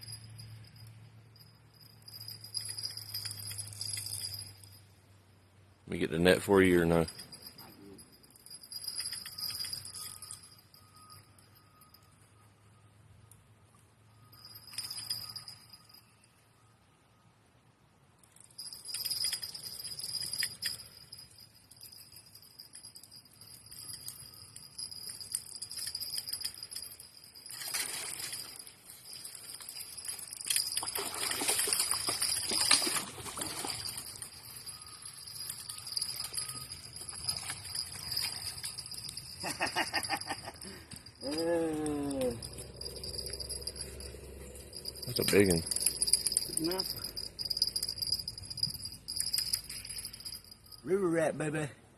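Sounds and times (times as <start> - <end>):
small bell jingling on fishing rod: 0.0 - 16.9, 18.2 - 51.7.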